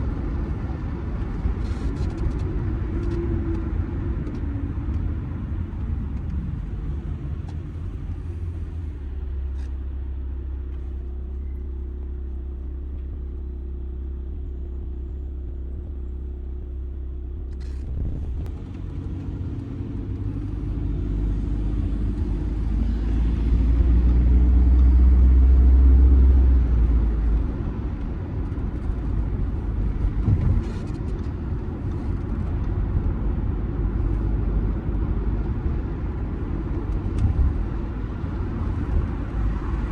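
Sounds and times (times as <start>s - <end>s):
diesel car engine: 0.0s - 39.9s
road rumble: 0.0s - 39.9s.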